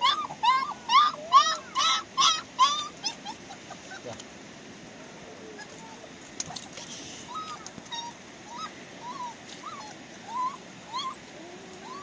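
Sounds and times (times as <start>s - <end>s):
dog whimpering: 0.0s - 4.2s, 5.2s - 12.0s.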